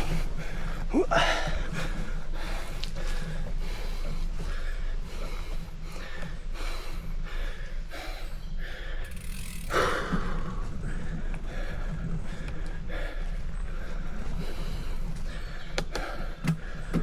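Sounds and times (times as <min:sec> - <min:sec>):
bicycle pedalling rhythm: 0:00.0 - 0:17.0
steady low rumble: 0:00.0 - 0:17.0.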